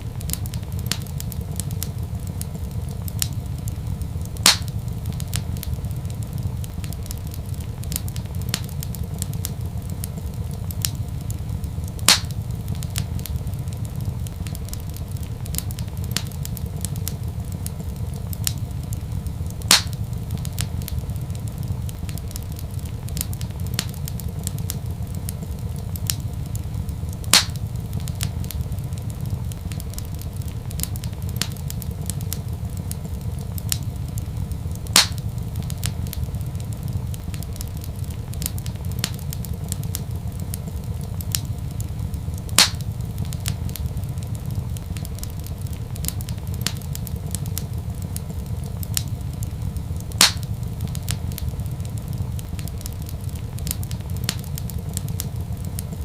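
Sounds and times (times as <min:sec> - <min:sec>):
fire pops: 0:00.0 - 0:56.0
wood fire crackling: 0:00.0 - 0:56.0.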